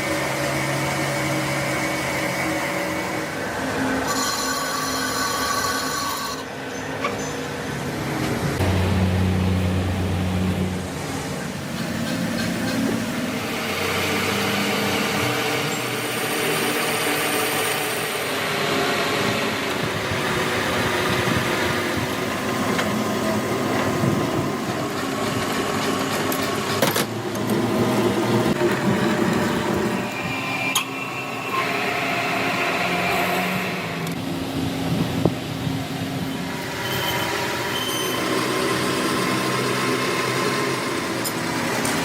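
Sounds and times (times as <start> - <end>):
workshop machine noise: 0.0 - 42.0.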